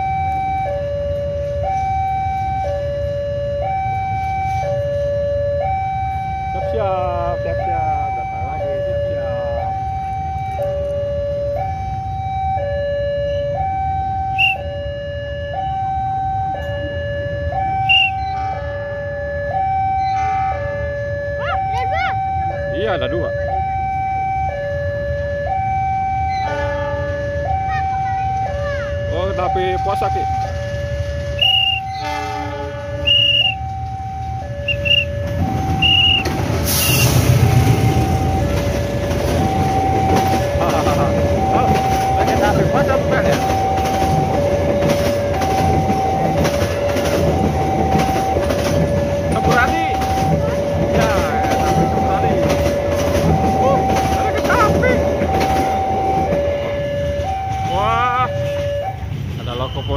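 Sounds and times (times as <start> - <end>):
low traffic rumble: 0.0 - 59.9
two-tone level crossing alarm: 0.0 - 59.9.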